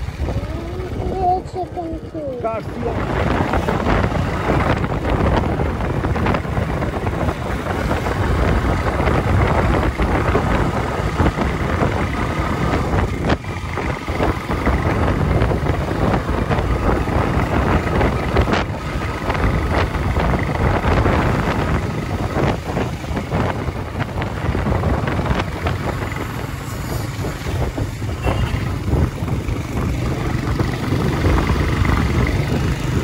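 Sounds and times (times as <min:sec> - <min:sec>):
motorcycle engine and road noise: 0:00.0 - 0:33.0
wind buffeting microphone: 0:00.0 - 0:33.0.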